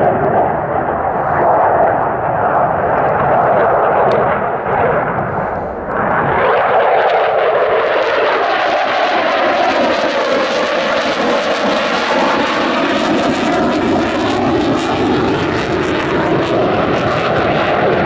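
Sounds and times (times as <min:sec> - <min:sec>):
jet engine roaring: 0:00.0 - 0:18.0.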